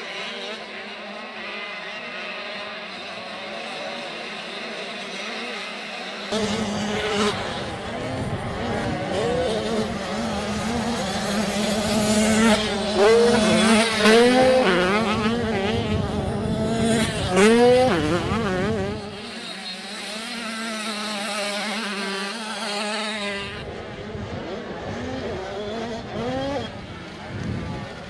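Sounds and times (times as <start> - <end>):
drone of other bikes: 0.0 - 28.0
motocross bike engines revving: 0.0 - 28.0.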